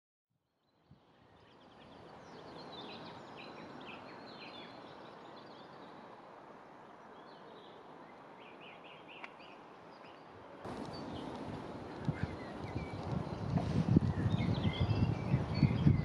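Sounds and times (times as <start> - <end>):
outdoor background hiss: 0.4 - 15.7
small birds chirping: 0.6 - 16.0.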